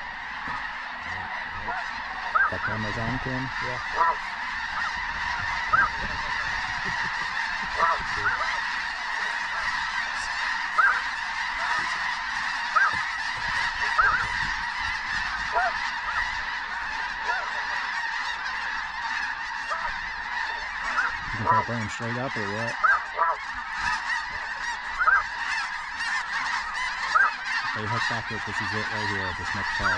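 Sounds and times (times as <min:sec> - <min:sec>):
flock of geese honking: 0:00.0 - 0:29.9.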